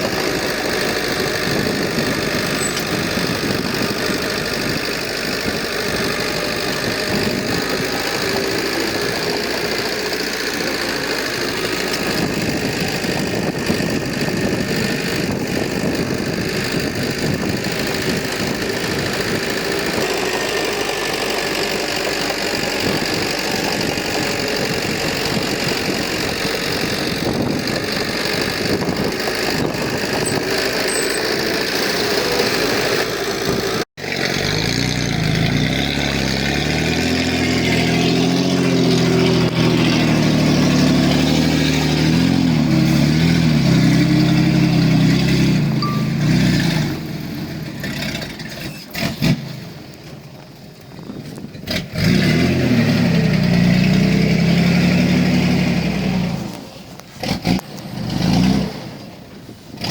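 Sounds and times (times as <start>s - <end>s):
engine revving: 0.0s - 49.9s, 51.6s - 59.1s
diesel engines running: 0.0s - 59.9s.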